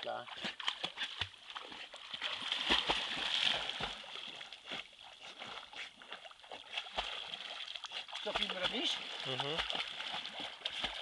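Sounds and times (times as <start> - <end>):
dog splashing in river: 0.0 - 11.0
water sloshing as dog swims: 0.0 - 11.0.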